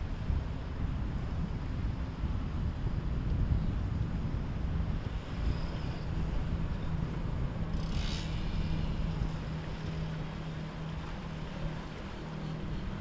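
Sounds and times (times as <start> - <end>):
motorboat engine droning: 0.0 - 13.0
wind rumble on microphone: 0.0 - 13.0.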